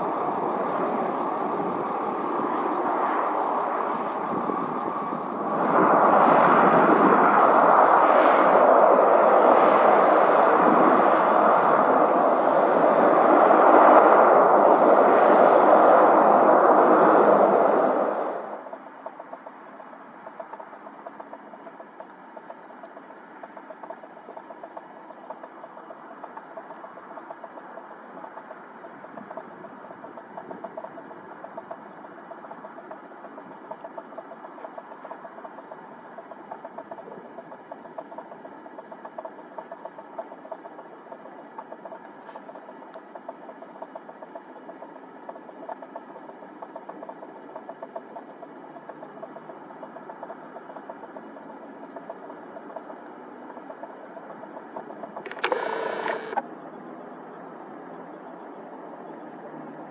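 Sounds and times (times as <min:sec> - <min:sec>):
aircraft engine fluttering: 0:00.0 - 0:56.5.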